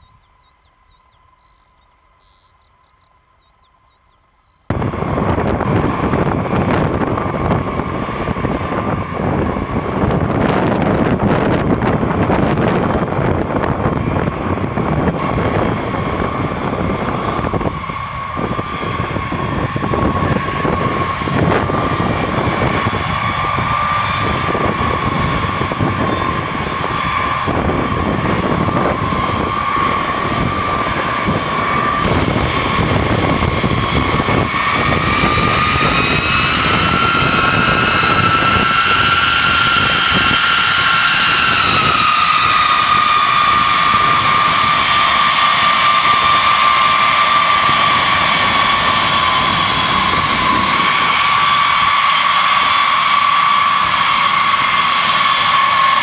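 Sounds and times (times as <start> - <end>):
heavy rumble: 0.0 - 56.0
jet engines whining: 0.0 - 56.0.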